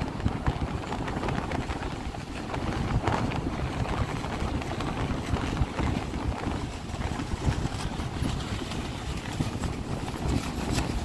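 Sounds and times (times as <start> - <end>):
gusty wind on microphone: 0.0 - 11.0
surf breaking on shore: 0.0 - 11.0.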